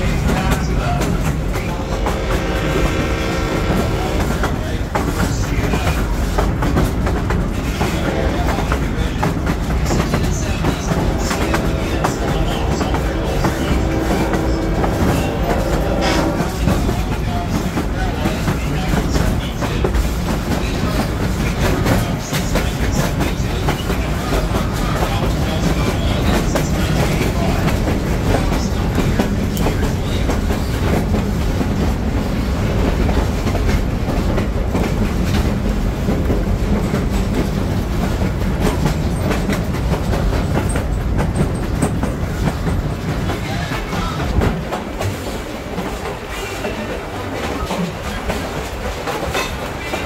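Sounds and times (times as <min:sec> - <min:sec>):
train wheels rumbling: 0:00.0 - 0:50.0
wheels clacking over rail: 0:00.0 - 0:50.0.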